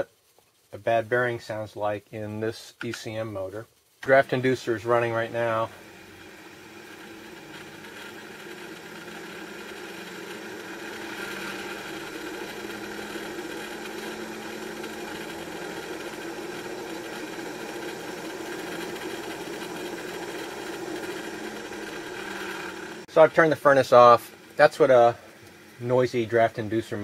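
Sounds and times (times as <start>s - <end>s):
furnace motor running noisily: 4.0s - 27.0s.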